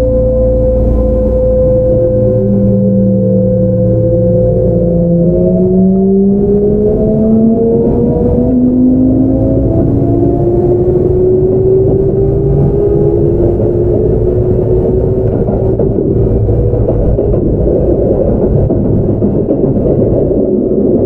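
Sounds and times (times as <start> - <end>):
traction motor whine rising: 0.0 - 21.0
wheels rumbling on rail: 0.0 - 21.0.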